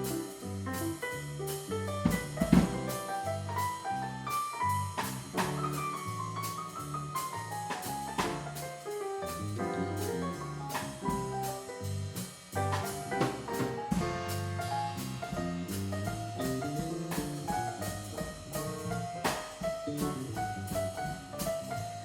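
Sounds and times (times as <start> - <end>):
walking bass line: 0.0 - 8.6, 9.3 - 22.0
drum kit cymbals: 0.0 - 22.0
piano: 0.0 - 22.0
loud drum hit: 2.0 - 22.0.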